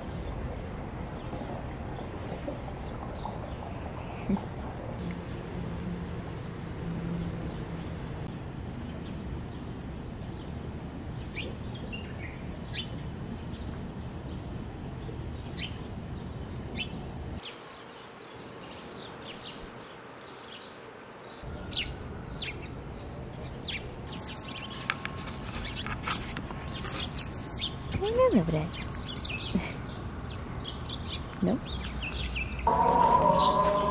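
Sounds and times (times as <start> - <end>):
small birds chirping: 0.0 - 4.6, 8.2 - 33.9
outdoor background noise: 0.0 - 33.9.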